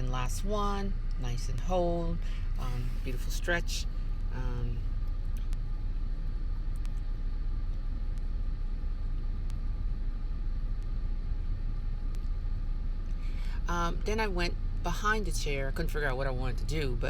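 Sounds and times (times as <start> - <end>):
faint steady hum: 0.0 - 17.0
low background rumble: 0.0 - 17.0.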